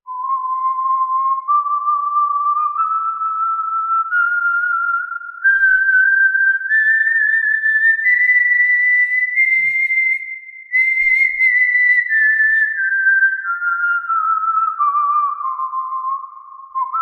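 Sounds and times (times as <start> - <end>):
person whistling a melody: 0.0 - 17.0.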